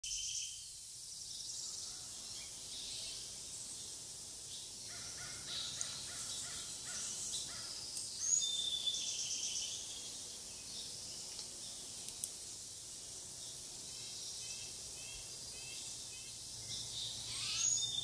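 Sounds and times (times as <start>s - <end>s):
steady outdoor hush: 0.6s - 18.0s
birds singing and calling: 1.4s - 12.3s, 13.4s - 18.0s.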